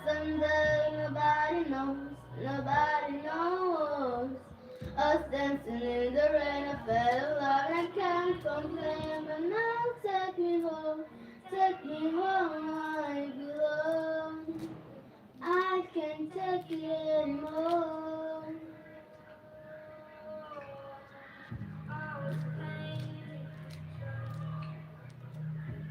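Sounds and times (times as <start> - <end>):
high voice singing slow melody: 0.0 - 14.6, 15.4 - 25.9.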